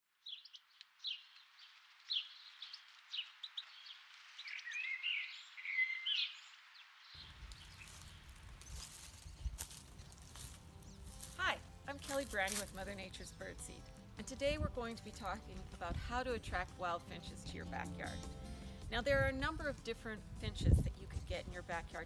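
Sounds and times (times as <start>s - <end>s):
songbirds chirping: 0.2s - 22.0s.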